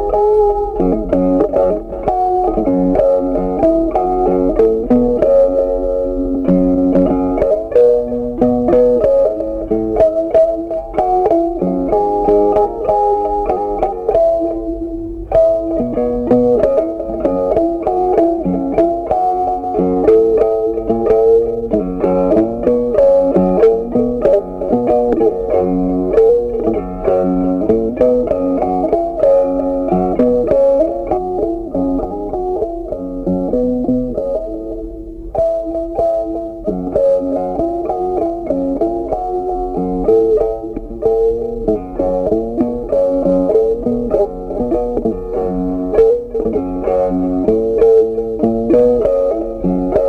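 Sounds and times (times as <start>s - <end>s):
plucked-string instrumental music: 0.0s - 50.0s.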